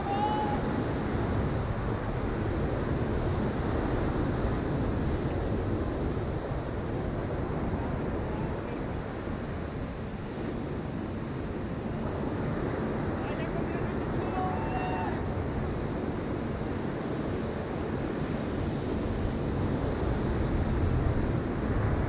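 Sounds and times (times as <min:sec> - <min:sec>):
ocean waves breaking on beach: 0:00.0 - 0:22.0
wind rumbling on microphone: 0:00.0 - 0:22.0.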